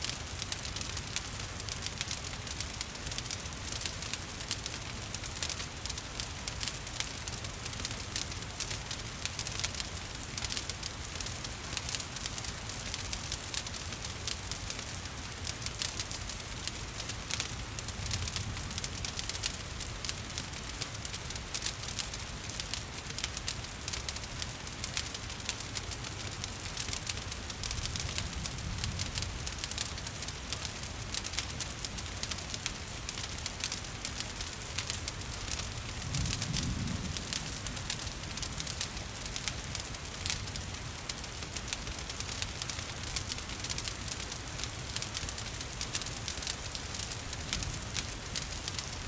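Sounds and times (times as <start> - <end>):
rain falling: 0.0 - 49.0
wood fire crackling: 0.0 - 49.0.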